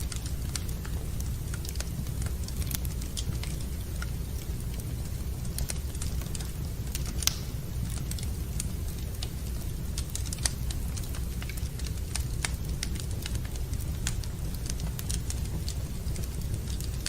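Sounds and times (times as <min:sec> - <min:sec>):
fire popping: 0:00.0 - 0:17.0
steady low rumble: 0:00.0 - 0:17.0
wood fire crackling: 0:00.0 - 0:17.0.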